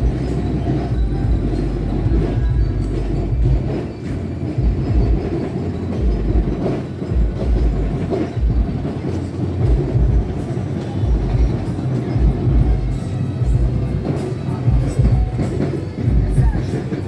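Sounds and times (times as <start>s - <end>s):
bass-heavy music from car stereo: 0.0s - 17.0s.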